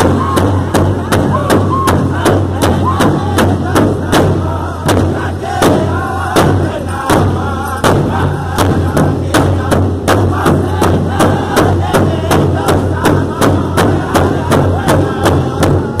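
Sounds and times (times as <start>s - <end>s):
big drum thumps: 0.0s - 16.0s
group singing: 0.0s - 16.0s.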